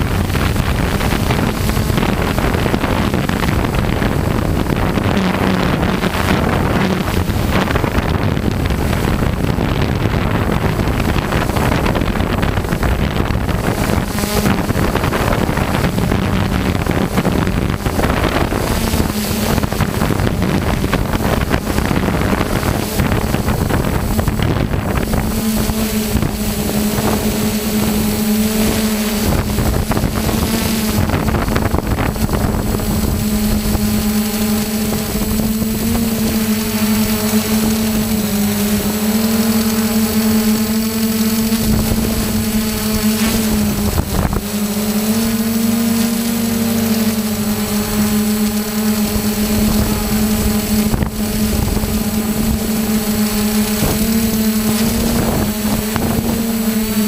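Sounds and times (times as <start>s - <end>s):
drone motors buzzing: 0.0s - 57.0s
wind rushing over microphone: 0.0s - 57.0s.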